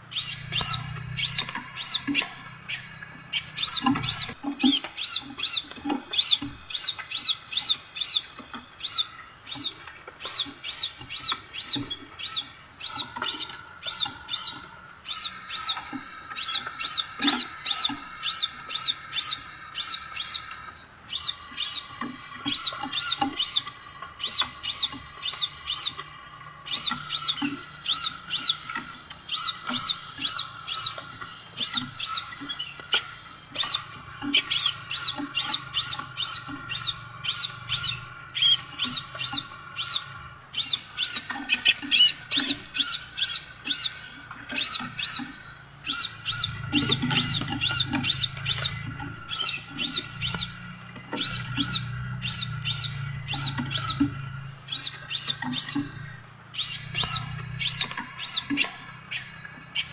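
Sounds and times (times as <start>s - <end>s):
bird high whistled chirps: 0.0s - 59.9s.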